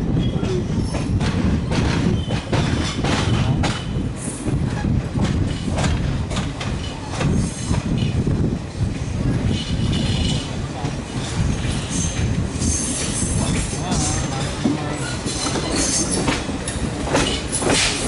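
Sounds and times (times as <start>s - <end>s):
train rolling rumble: 0.0s - 18.0s
train wheels clattering over rails: 0.0s - 18.0s.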